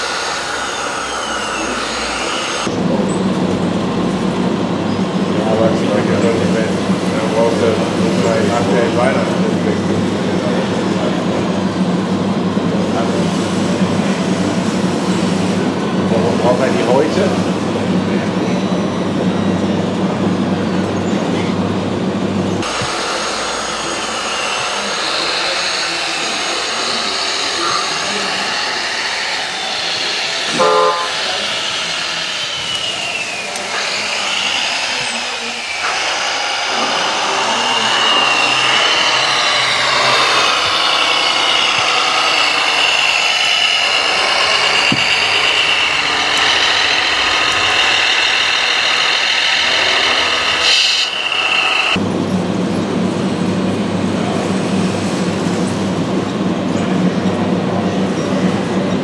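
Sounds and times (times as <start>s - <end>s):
electric motors whining: 0.0s - 52.8s.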